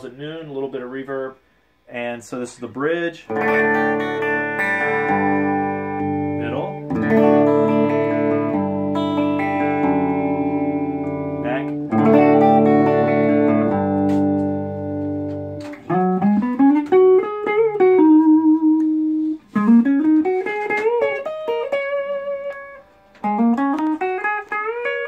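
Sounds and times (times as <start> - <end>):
electric guitar playing: 3.3 - 25.0.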